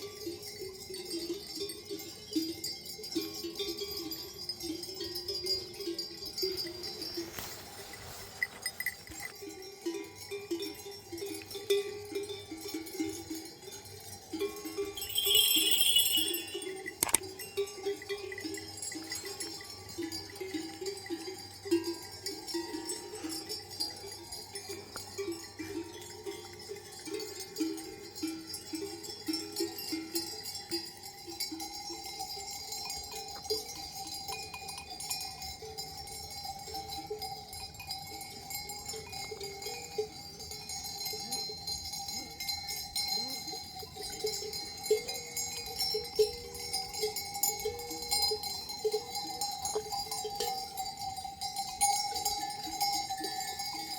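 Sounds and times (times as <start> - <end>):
livestock bells clanking: 0.0 - 53.9.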